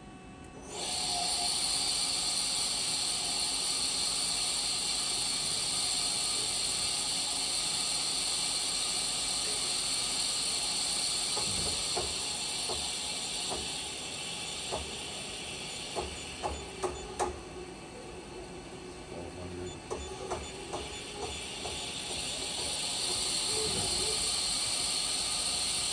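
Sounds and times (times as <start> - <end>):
milling machine hissing: 0.6 - 25.9.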